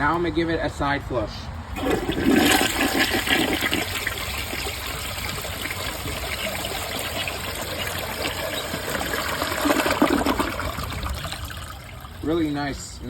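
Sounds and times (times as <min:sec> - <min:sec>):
toilet refilling water trickling: 0:01.8 - 0:12.8.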